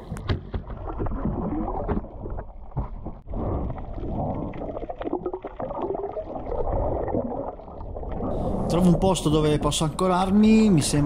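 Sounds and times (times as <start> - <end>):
muffled water sloshing and gurgling: 0.0 - 11.0.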